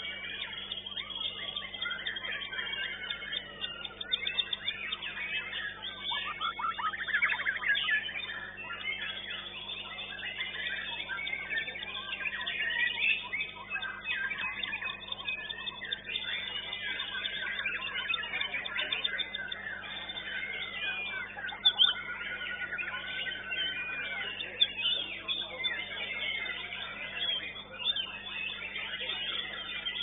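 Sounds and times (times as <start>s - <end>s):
chorus of songbirds: 0.0s - 30.0s
rapid rattling bird trill: 0.0s - 30.0s
songbird singing: 0.0s - 30.0s.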